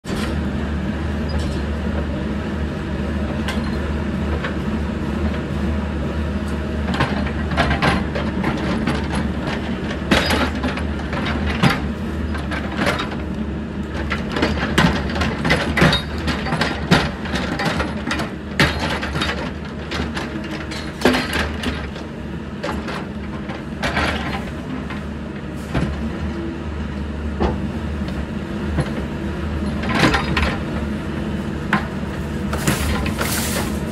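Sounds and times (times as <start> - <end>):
diesel engine running under load: 0.1 - 33.9.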